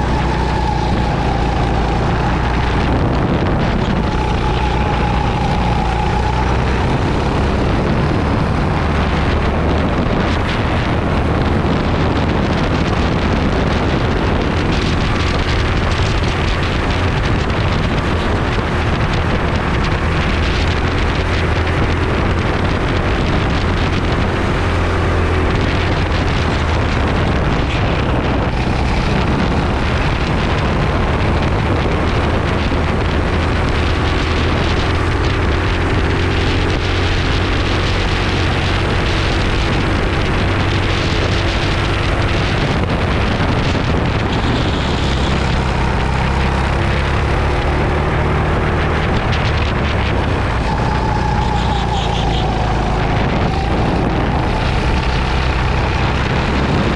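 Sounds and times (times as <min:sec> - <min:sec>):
kart engine running hard: 0:00.0 - 0:56.9
wind rushing over microphone: 0:00.0 - 0:56.9.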